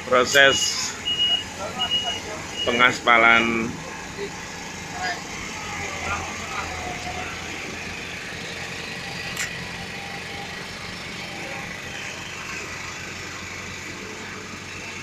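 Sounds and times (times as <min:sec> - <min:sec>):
road roller diesel engine: 0:00.0 - 0:15.0.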